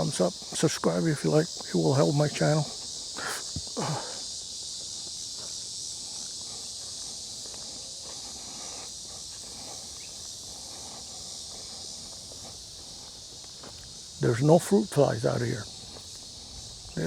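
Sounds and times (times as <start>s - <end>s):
high-pitched insect chorus: 0.0s - 17.0s
soft footsteps on a trail: 0.0s - 17.0s.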